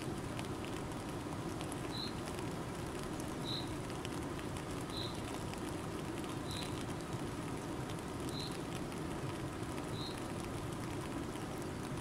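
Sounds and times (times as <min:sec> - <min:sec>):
water ticks: 0:00.0 - 0:12.0.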